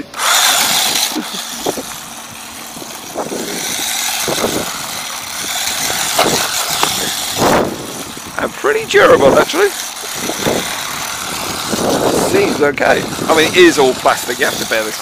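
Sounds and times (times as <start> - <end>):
small electric motor whining: 0.0 - 15.0
tyres churning over snow: 0.0 - 15.0.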